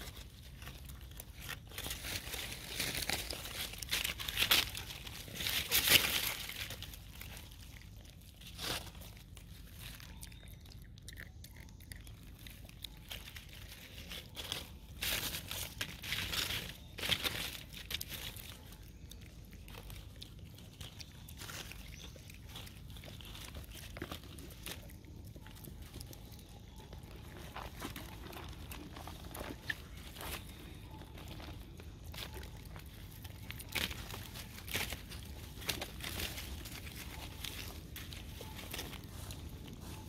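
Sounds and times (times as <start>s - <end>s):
dry leaves rustling: 0.0s - 40.0s.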